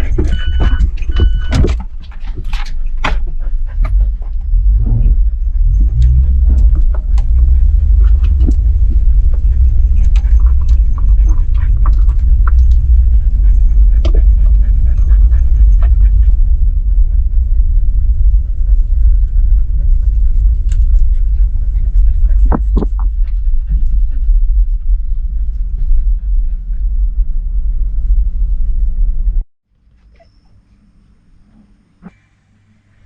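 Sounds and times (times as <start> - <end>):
dog panting: 0.0 - 26.9
vehicle rumble: 0.0 - 29.5.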